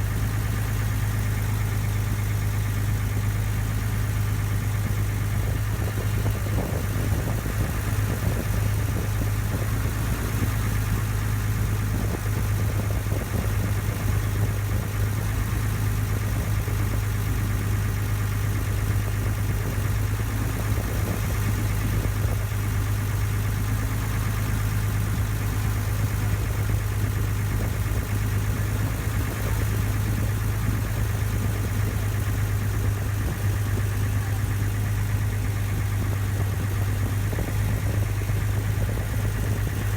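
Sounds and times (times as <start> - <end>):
ferry engine humming: 0.0 - 39.9.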